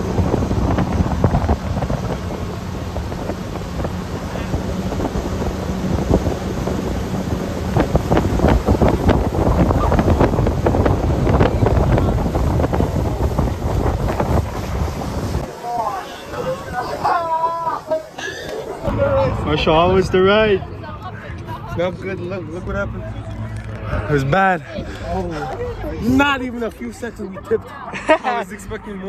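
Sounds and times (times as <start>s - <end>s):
wind buffeting microphone: 0.0s - 17.3s, 18.6s - 26.5s
motorboat engine hum: 0.0s - 29.0s
rush of boat wake: 0.0s - 29.0s.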